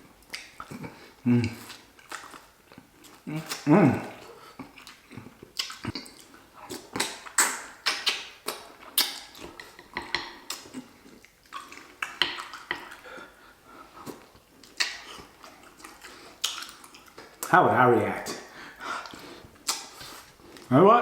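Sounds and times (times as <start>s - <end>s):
close eating sounds: 0.0s - 21.0s.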